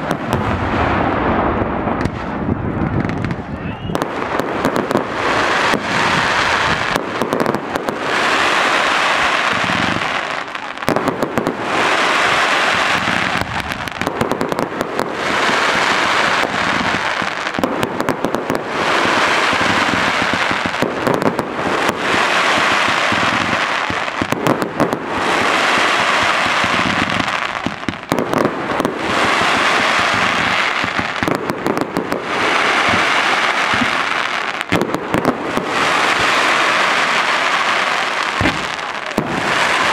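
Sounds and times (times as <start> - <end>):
fireworks bangs and crackle: 0.0 - 39.9
fireworks hissing: 3.0 - 39.9.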